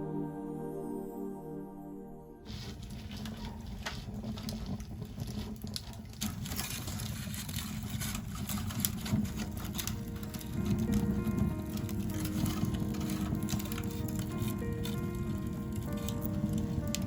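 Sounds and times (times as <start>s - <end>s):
campfire crackling and popping: 2.5s - 17.0s
low rumble of flames: 2.5s - 17.0s.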